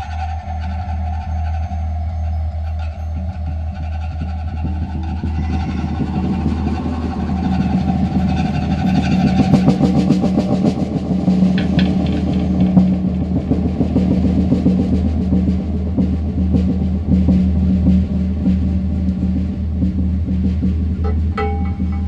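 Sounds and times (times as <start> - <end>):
drum kit rolls and fills: 0.0 - 22.0
steady low hum: 0.0 - 22.0.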